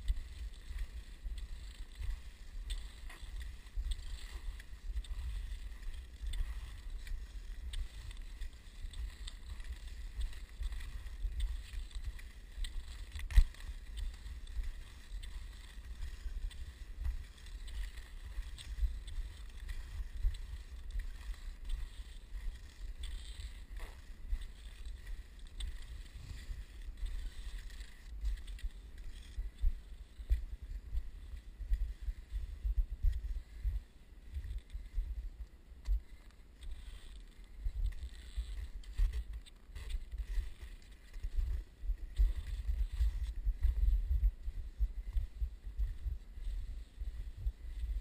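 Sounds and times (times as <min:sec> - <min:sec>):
skis swishing over snow: 0:00.0 - 0:48.0
wind rumble on microphone: 0:00.0 - 0:48.0.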